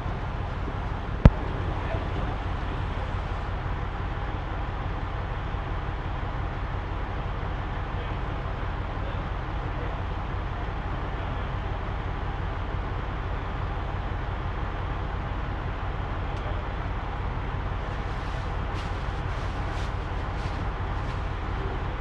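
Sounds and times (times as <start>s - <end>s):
diesel engine low rumble: 0.0s - 22.0s.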